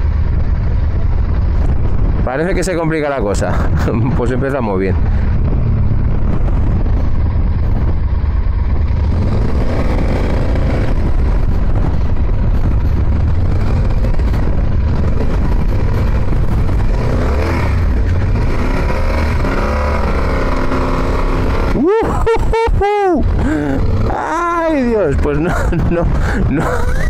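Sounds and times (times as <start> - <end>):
motorcycle engine revving: 3.6 - 27.0.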